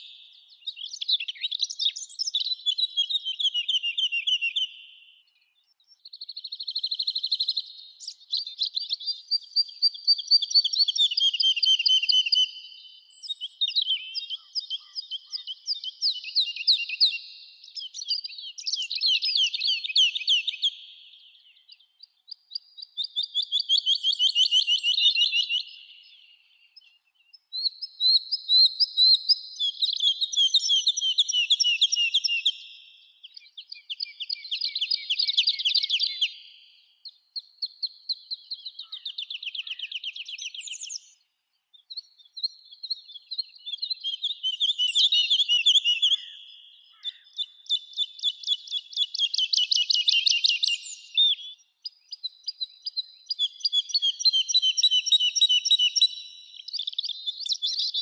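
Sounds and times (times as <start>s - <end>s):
songbird singing trills: 0.0s - 58.0s.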